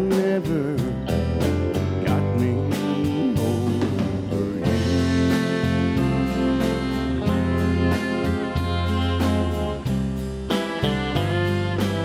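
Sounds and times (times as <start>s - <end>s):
country band instrumental: 0.0s - 12.0s
pedal steel guitar: 0.0s - 12.0s.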